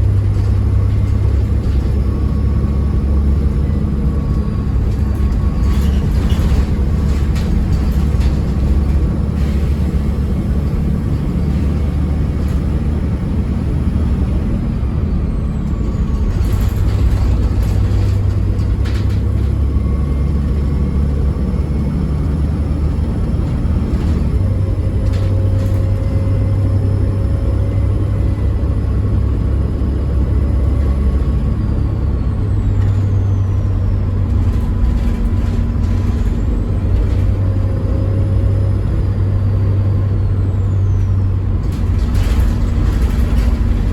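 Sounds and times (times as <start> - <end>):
bus engine droning: 0.0 - 43.9.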